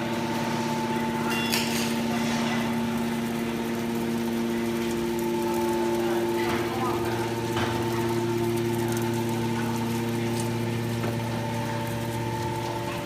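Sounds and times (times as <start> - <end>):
hydraulic pump humming: 0.0 - 13.0.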